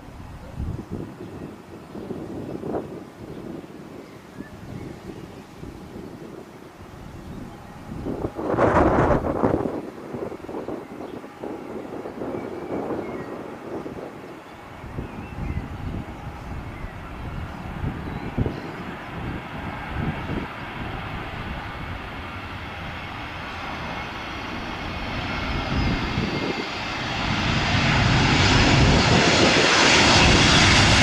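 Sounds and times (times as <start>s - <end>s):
jet engines of landing airliner: 0.0s - 31.0s
wind buffeting microphone: 0.0s - 31.0s.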